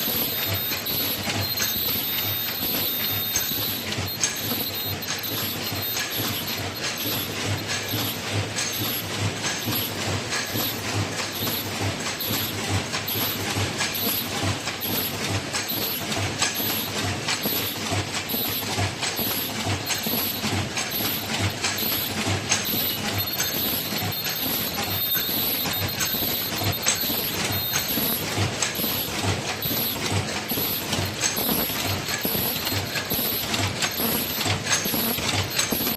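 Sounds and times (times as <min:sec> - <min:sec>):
machine clattering clicks: 0:00.0 - 0:35.9.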